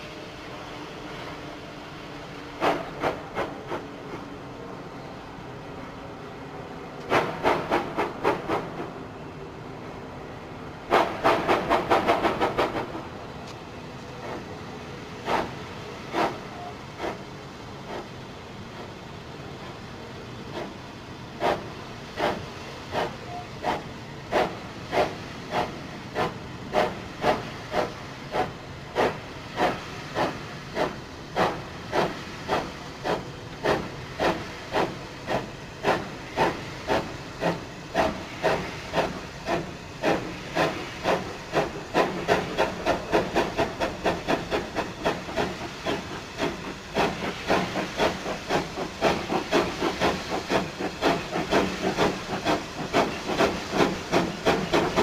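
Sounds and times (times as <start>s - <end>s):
steam hissing: 0.0s - 3.9s, 7.1s - 8.9s, 10.9s - 13.3s, 14.0s - 55.0s
steam locomotive exhaust chuffing: 2.4s - 4.1s, 7.1s - 9.0s, 10.9s - 13.2s, 14.1s - 19.0s, 20.5s - 55.0s.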